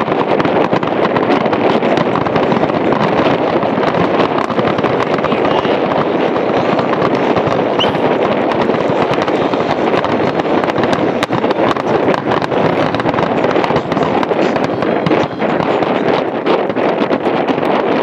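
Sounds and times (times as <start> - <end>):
fireworks bangs and crackles: 0.0 - 18.0
wind buffeting microphone: 0.0 - 18.0.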